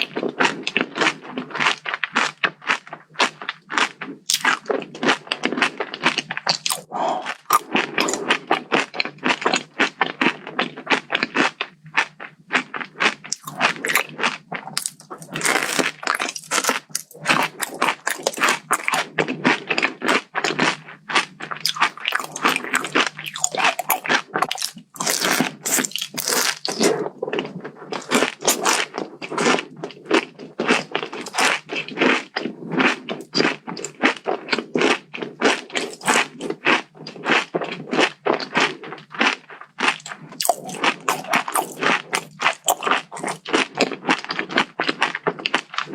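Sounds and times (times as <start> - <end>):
crunchy chocolate bar chewing: 0.0 - 45.9.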